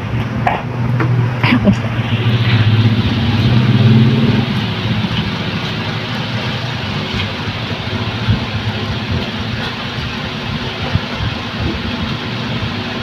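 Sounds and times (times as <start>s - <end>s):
motor running with rushing hum: 0.0s - 13.0s.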